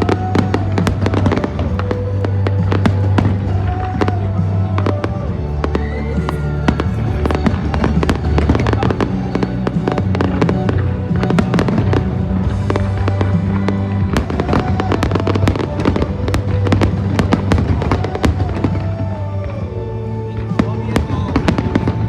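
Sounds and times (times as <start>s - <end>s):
fireworks crackling and banging: 0.0s - 22.0s
loud music with bass: 0.0s - 22.0s.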